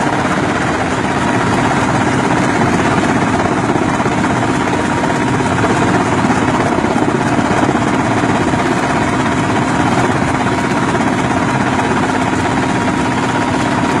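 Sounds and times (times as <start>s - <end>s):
helicopter rotor chopping: 0.0s - 14.0s.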